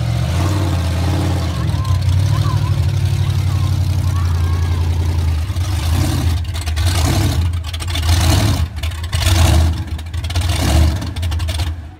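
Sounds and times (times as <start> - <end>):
monster truck engine revving: 0.0 - 11.9.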